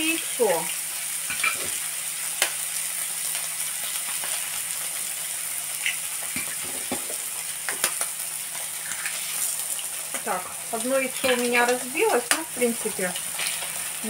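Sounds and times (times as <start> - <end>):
eggs and chicken sizzling in pan: 0.0 - 14.0.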